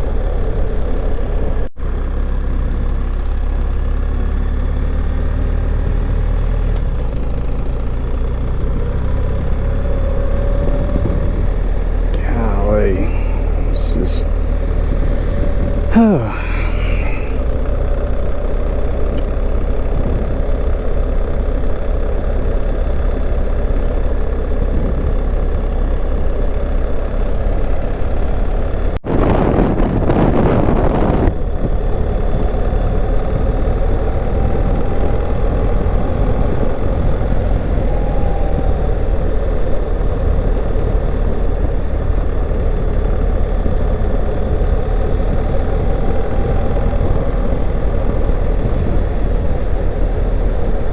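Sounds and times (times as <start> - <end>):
vehicle engine and road noise: 0.0 - 50.9.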